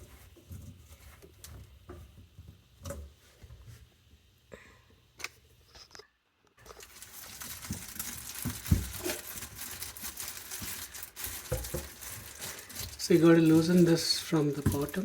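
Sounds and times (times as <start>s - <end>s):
rustling scraping and crackling: 0.0s - 3.8s, 6.6s - 15.0s.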